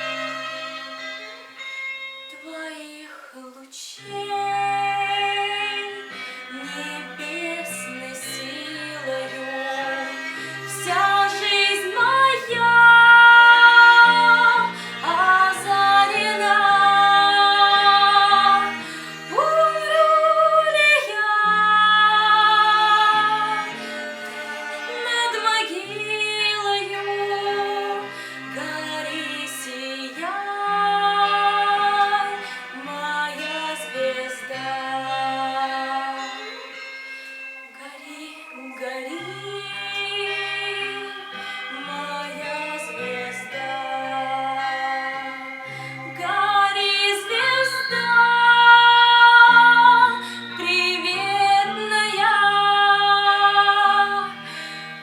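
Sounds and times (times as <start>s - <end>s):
instrumental accompaniment: 0.0s - 3.3s, 4.0s - 55.0s
woman singing with vibrato: 2.3s - 36.8s, 37.6s - 55.0s.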